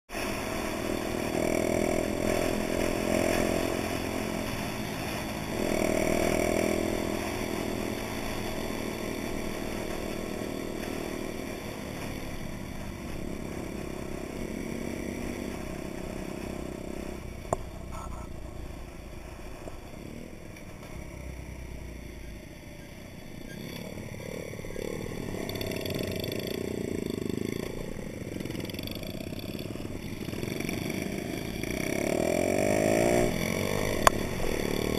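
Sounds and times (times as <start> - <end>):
minibike engine revving: 0.1 - 34.9.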